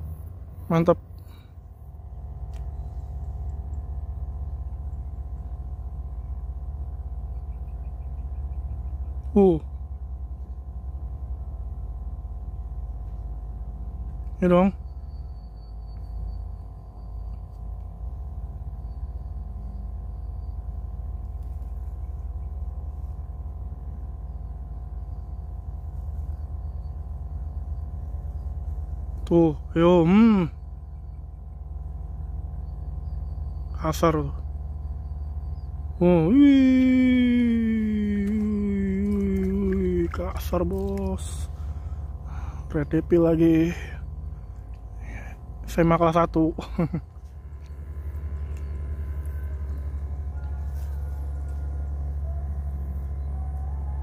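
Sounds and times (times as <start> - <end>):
faint steady tone: 0.0 - 54.0
machine hum with flutter: 0.0 - 54.0.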